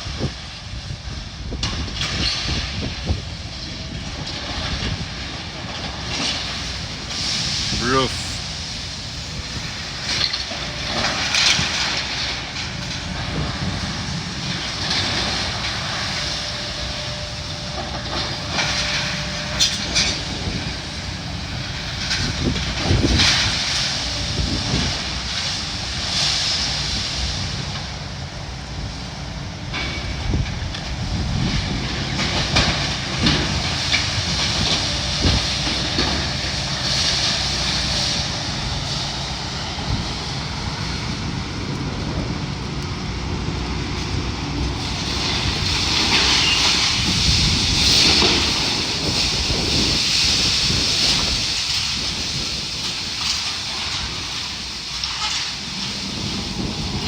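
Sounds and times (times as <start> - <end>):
demolition machinery running: 0.0 - 57.0.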